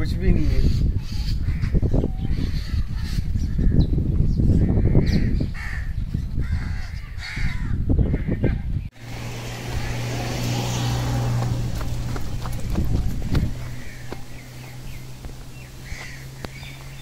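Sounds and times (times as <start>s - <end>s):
birds calling harshly: 0.0s - 17.0s.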